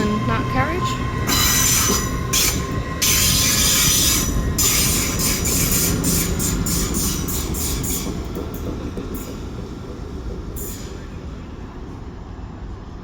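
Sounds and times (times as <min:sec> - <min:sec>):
rhythmic clatter of carriages: 0:00.0 - 0:10.8
train passing: 0:00.0 - 0:13.0.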